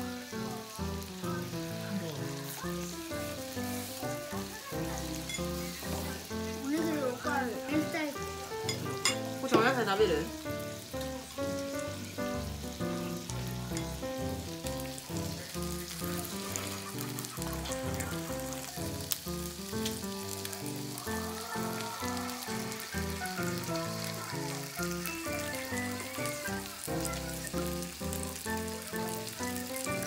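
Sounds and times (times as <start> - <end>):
simple background music tune: 0.0 - 30.0
skewers sizzling on hot plate: 0.0 - 30.0.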